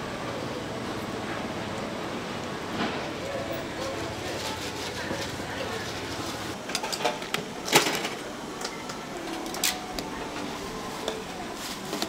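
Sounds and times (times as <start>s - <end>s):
street food stall background noise: 0.0s - 12.0s.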